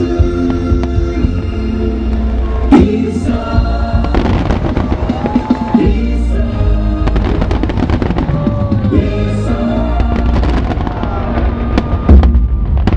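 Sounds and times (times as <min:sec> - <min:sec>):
music with singing: 0:00.0 - 0:12.4
fireworks bursting and crackling: 0:00.0 - 0:12.9.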